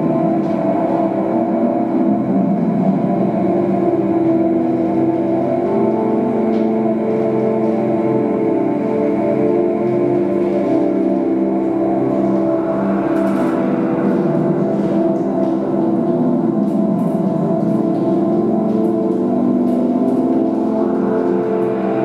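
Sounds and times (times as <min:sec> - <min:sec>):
ambient synthesizer drone: 0:00.0 - 0:22.0.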